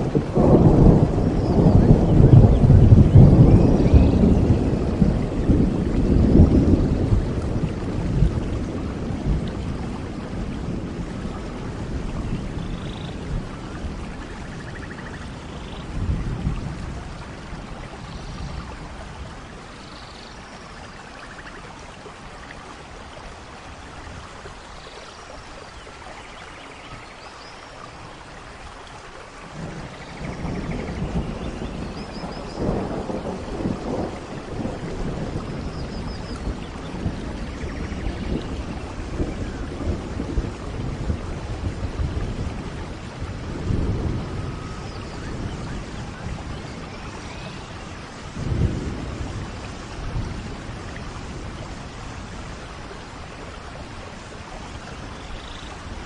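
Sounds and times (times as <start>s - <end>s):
thunder rumbling: 0.0s - 22.2s, 29.4s - 56.0s
steady rain: 0.0s - 56.0s.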